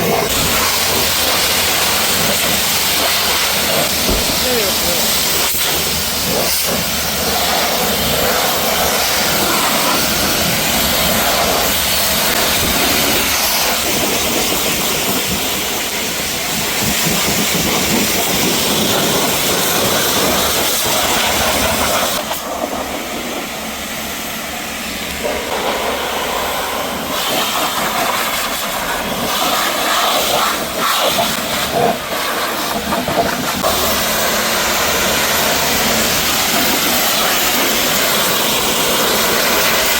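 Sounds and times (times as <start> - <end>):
pressure washer spraying: 0.0 - 24.3, 25.0 - 39.9.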